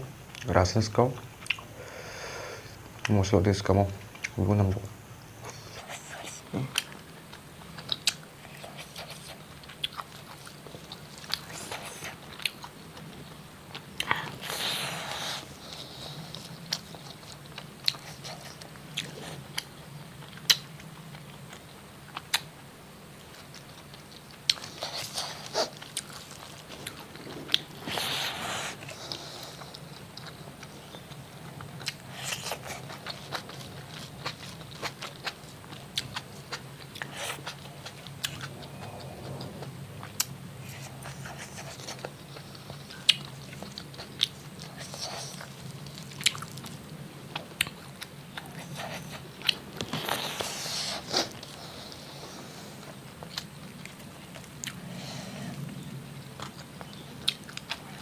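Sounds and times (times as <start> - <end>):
person chewing crunchy food: 1.4 - 1.7, 5.4 - 22.6, 23.2 - 58.0.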